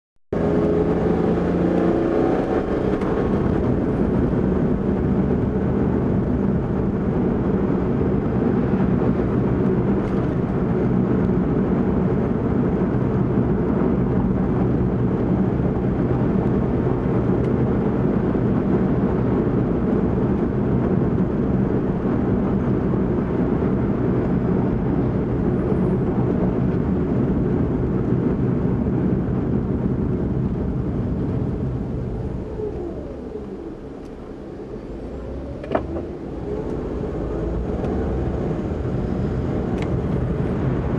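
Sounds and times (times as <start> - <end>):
car engine and tyre drone: 0.4 - 40.9.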